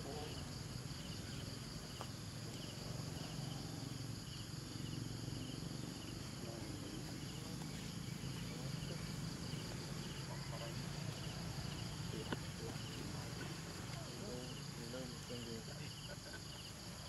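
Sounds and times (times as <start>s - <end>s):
insect pulsed chirp: 0.0s - 17.0s
insects buzzing drone: 0.0s - 17.0s.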